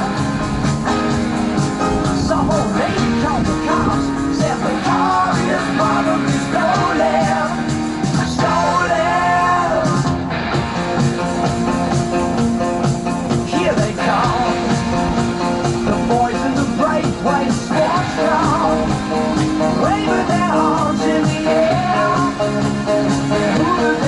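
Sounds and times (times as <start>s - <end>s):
rock song with singing: 0.0s - 24.0s.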